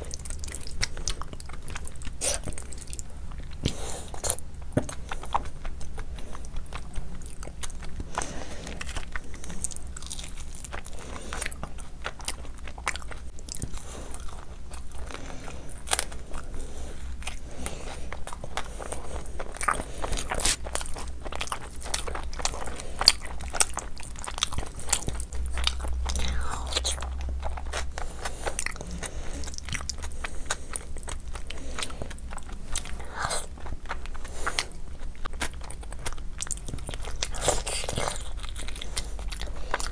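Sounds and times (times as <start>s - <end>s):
wet chewing and lip smacks: 0.0s - 39.9s.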